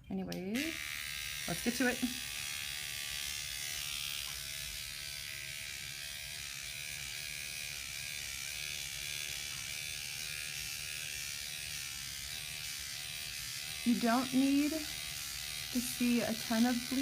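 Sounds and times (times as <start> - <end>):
electric microneedling pen buzzing: 0.2 - 17.0.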